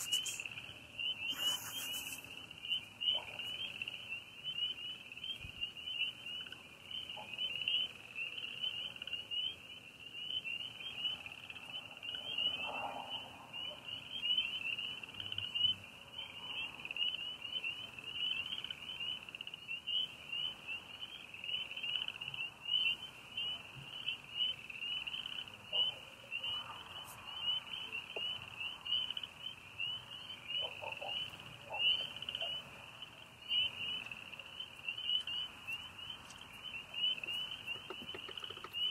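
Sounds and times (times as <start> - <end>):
crickets chirping: 0.0 - 38.9
frogs chirping: 0.0 - 38.9.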